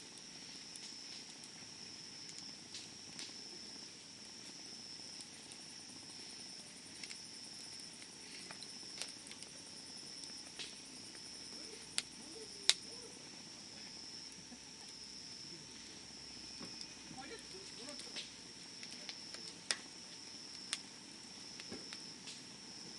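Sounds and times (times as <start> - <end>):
wood fire crackling: 0.0 - 22.9
high-pitched insect trill: 0.2 - 22.9.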